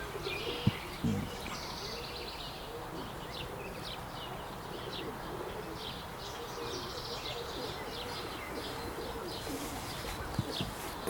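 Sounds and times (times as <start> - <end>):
pigeons cooing: 0.0 - 11.0
small birds chirping: 0.0 - 11.0.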